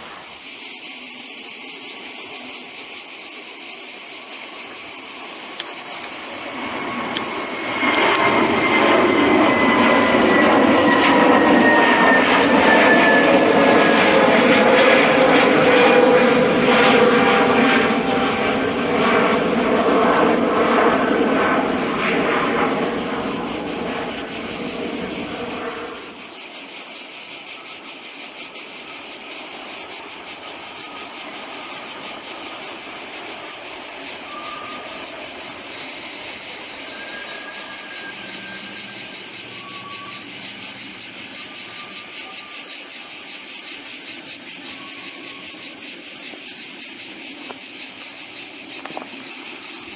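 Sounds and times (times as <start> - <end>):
cicadas chorus: 0.0 - 49.9
jet airliner passing: 3.3 - 49.9.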